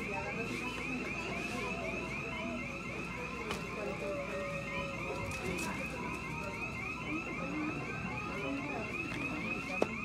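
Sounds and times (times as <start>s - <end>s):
electronic alarm beeping: 0.0s - 10.0s
faint background chatter: 0.0s - 10.0s.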